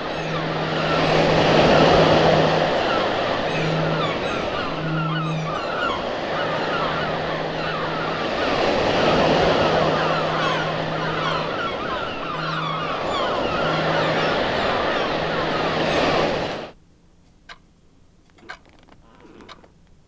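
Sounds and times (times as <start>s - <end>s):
birds chattering: 0.0s - 16.7s
sea surf washing: 0.0s - 16.8s
low hum: 0.0s - 17.2s.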